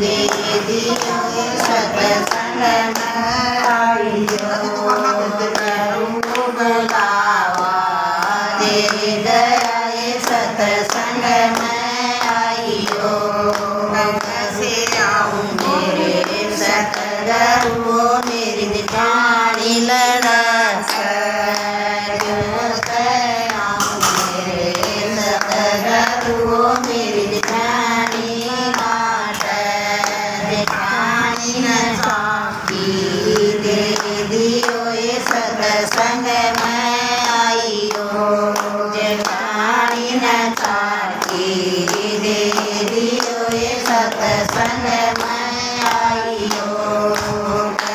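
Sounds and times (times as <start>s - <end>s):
hand-clapping: 0.0s - 47.9s
women singing devotional song: 0.0s - 47.9s.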